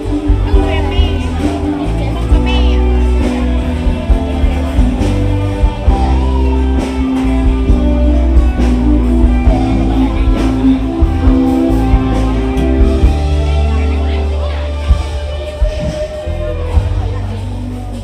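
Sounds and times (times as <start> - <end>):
guitar chords: 0.0 - 18.0
heavy bass: 0.0 - 18.0
live band music: 0.0 - 18.0.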